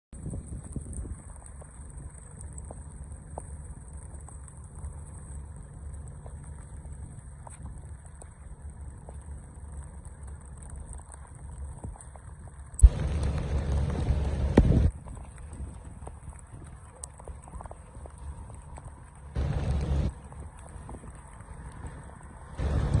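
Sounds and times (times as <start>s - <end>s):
faint ticks: 0.2s - 23.0s
steady low rumble: 0.2s - 23.0s.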